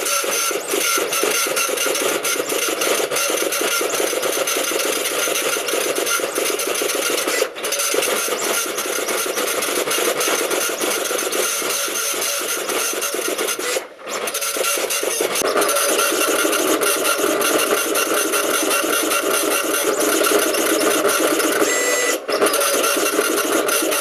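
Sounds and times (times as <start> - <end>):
dot matrix printer buzzing: 0.0 - 24.0.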